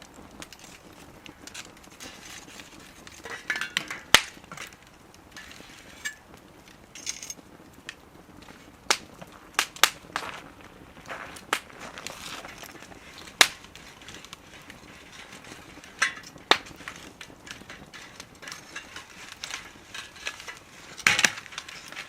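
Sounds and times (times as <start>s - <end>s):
burning wood popping: 0.0s - 22.0s
wood fire crackling: 0.0s - 22.0s.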